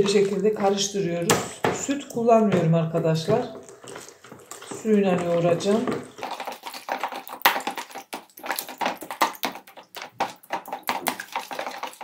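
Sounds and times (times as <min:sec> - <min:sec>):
metal spoon stirring in plastic bowl: 0:00.0 - 0:12.0.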